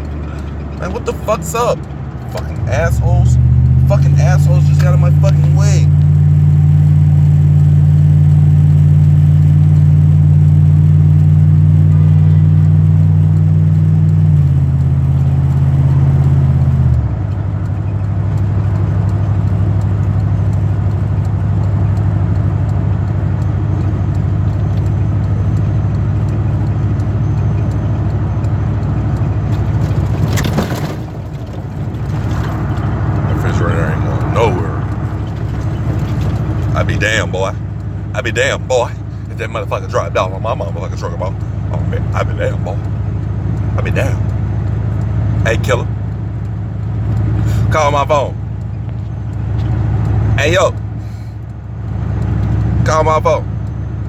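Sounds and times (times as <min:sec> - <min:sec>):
truck engine and road drone: 0:00.0 - 0:54.0.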